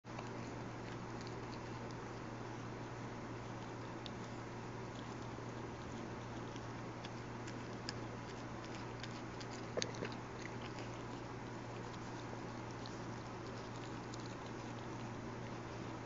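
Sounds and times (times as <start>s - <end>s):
steady hiss and low hum: 0.0s - 16.0s
animal chewing clicks and smacks: 0.1s - 16.0s.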